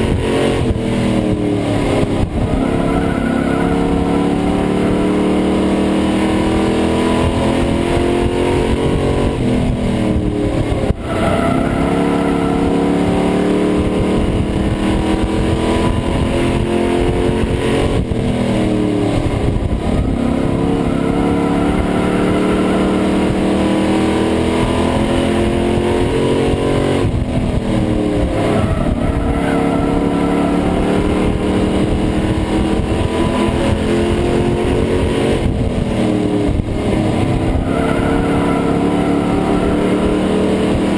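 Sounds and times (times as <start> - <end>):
race truck engine: 0.0 - 40.9
wind and road noise: 0.0 - 40.9.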